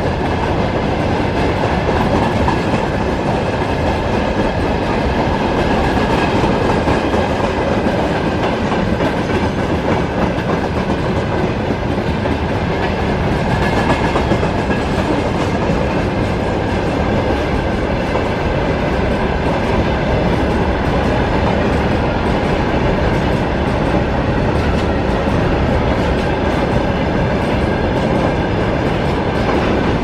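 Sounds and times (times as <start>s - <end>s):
steel wheels running on rails: 0.0s - 30.0s.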